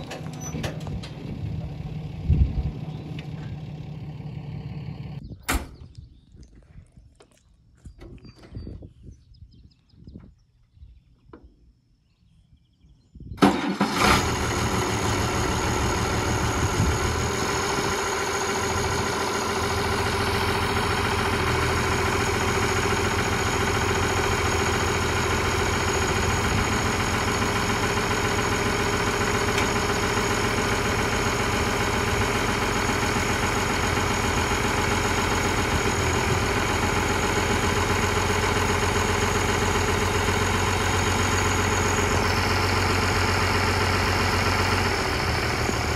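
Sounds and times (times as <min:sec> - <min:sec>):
engine starting and idling: 0:00.0 - 0:05.7, 0:13.4 - 0:45.9.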